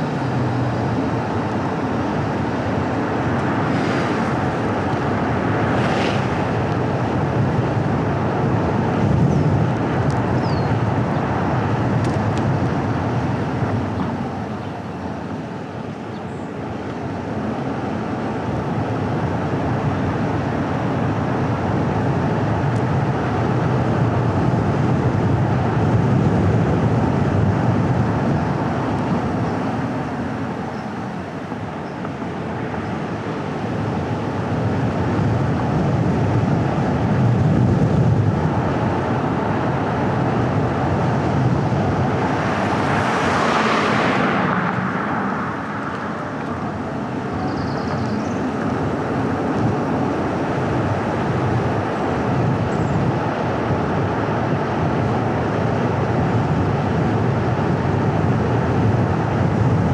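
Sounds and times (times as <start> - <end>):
car engine and tyre rumble: 0.0 - 59.9
wind noise: 0.0 - 59.9.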